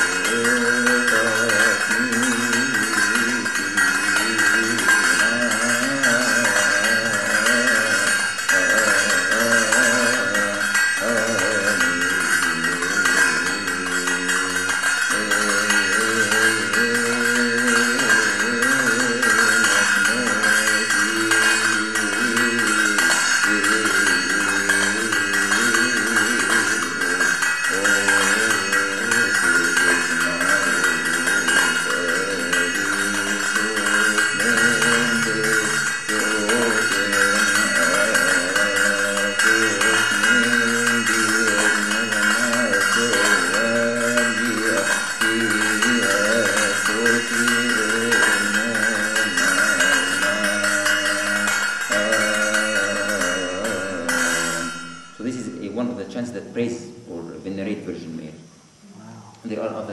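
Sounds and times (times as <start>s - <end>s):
man chanting: 0.0s - 58.5s, 59.1s - 59.9s.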